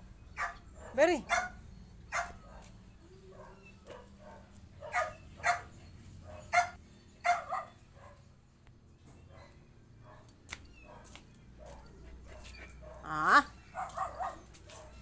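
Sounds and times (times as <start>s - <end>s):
dog barking: 0.4s - 2.7s, 3.3s - 5.7s, 6.3s - 8.2s, 9.3s - 15.0s.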